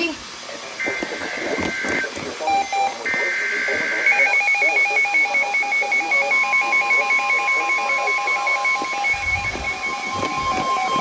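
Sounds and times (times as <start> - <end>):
two-pitch beeping alarm: 0.8 - 11.0.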